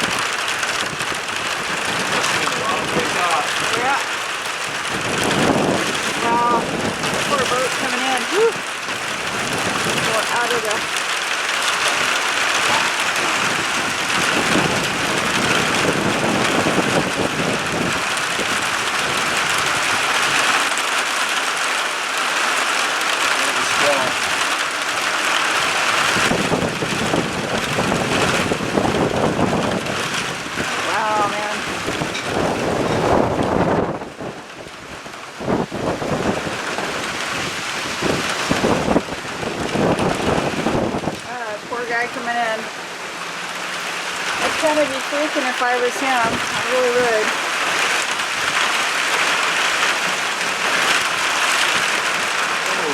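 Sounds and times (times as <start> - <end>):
wind buffeting microphone: 0.0 - 20.9, 22.2 - 52.9
heavy rain pouring: 0.0 - 52.9
wind: 0.0 - 52.9.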